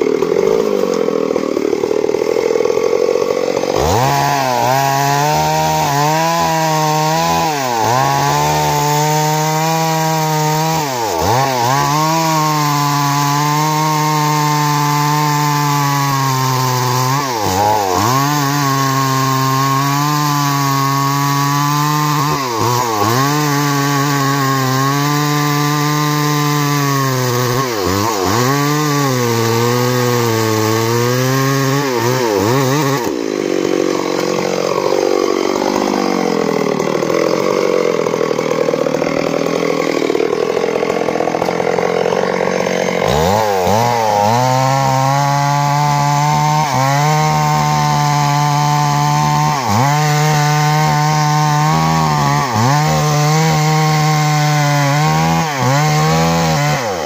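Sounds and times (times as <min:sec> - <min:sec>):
chainsaw cutting into tree: 0:00.0 - 0:57.0.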